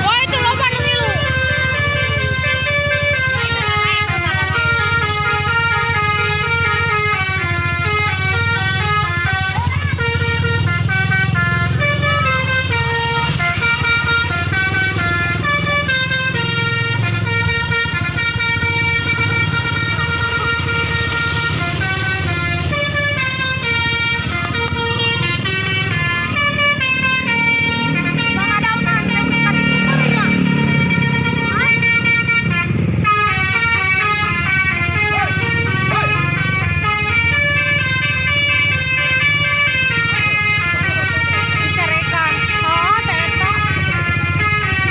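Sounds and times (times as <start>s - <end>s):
musical bus horn melody: 0.0s - 44.9s.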